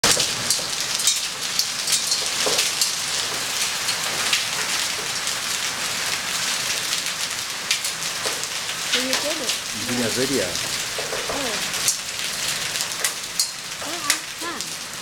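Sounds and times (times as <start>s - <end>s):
hail falling hiss: 0.0s - 15.0s
hailstones ticking on surfaces: 0.0s - 15.0s.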